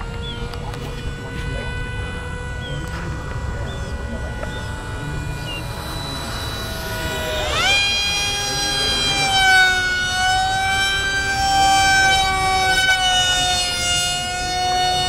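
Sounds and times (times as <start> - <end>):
model jet high-pitched whine: 0.0 - 15.0.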